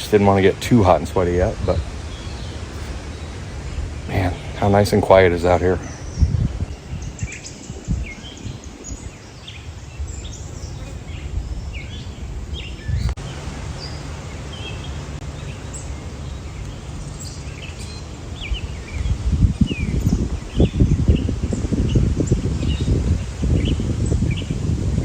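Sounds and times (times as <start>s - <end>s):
birds chirping: 0.0s - 25.0s
wind rumble on microphone: 0.0s - 25.0s.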